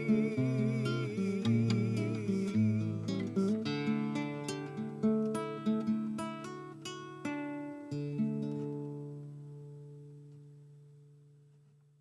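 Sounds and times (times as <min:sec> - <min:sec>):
acoustic guitar playing: 0:00.0 - 0:11.8.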